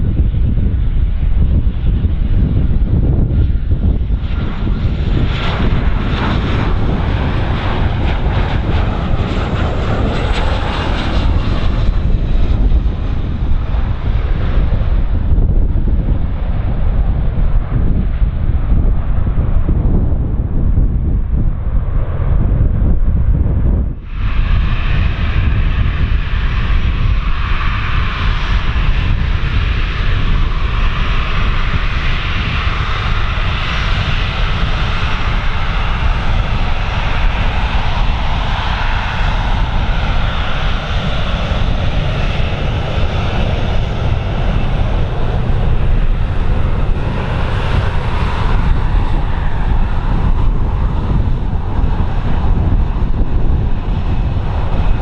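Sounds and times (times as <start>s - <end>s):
airliner engines running: 0.0s - 55.0s
wind rumbling on microphone: 0.0s - 55.0s.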